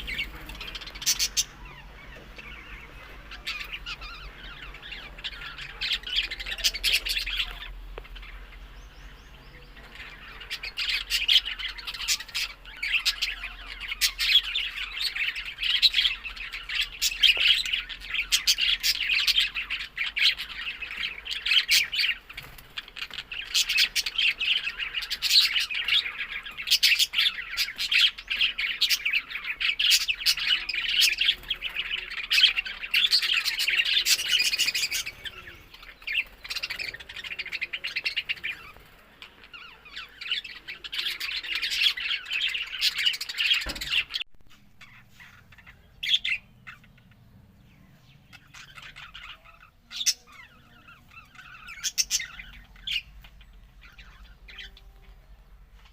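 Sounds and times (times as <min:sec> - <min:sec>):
budgerigars chirping: 0:00.0 - 0:55.9.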